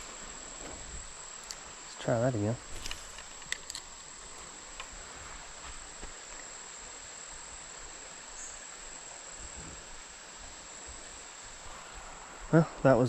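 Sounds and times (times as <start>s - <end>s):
insect chorus drone: 0.0s - 13.0s
soft background hiss: 0.0s - 13.0s.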